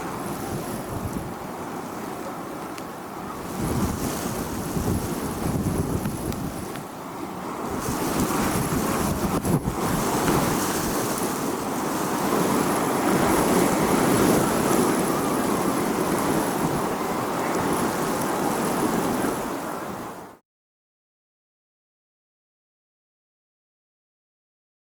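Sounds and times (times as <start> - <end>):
howling storm wind: 0.0 - 20.4.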